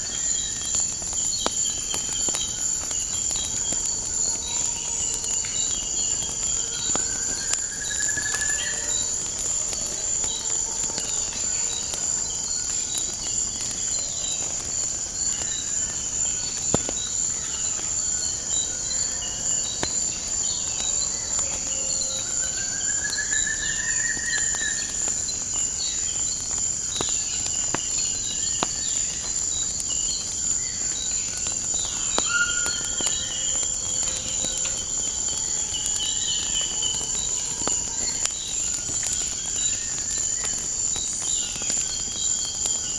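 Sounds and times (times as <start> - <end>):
insects chirping: 0.0 - 42.9
wood fire crackling: 0.0 - 42.9.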